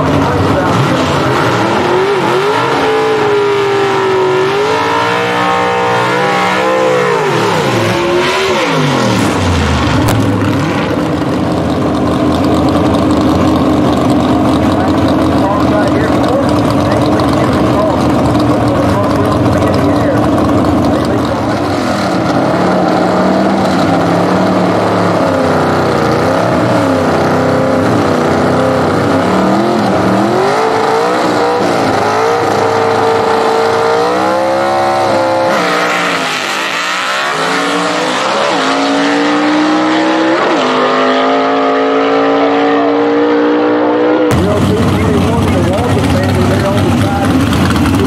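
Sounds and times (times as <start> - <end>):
drag car engine revving: 0.0 - 48.0.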